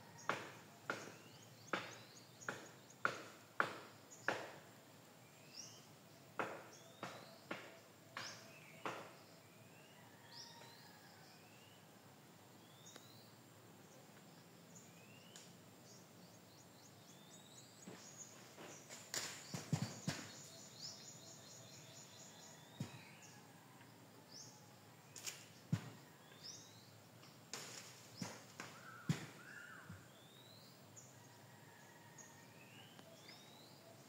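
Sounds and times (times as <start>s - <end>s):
small birds chirping: 0.0s - 11.9s, 12.5s - 31.2s, 32.3s - 34.0s.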